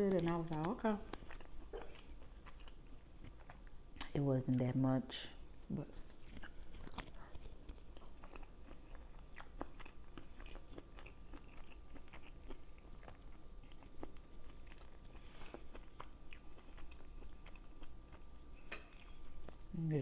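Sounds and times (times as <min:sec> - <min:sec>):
chewing mouth clicks and smacks: 0:00.0 - 0:04.2, 0:05.9 - 0:19.6.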